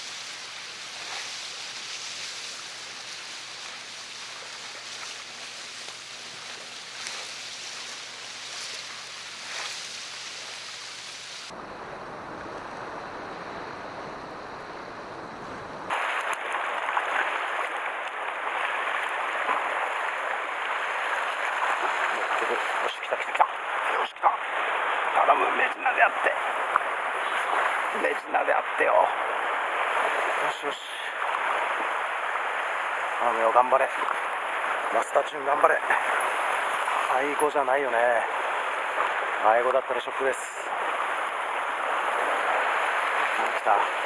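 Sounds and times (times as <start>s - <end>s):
sea waves washing against rocks: 0.0s - 11.5s, 15.9s - 44.0s.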